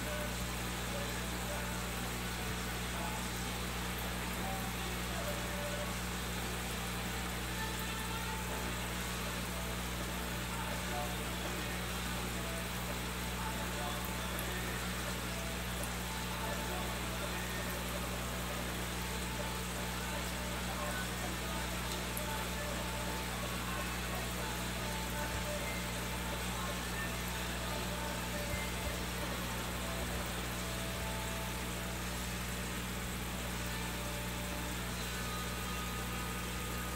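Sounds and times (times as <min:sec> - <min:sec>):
aquarium air pump humming: 0:00.0 - 0:36.9
bubbling aeration hiss: 0:00.0 - 0:36.9.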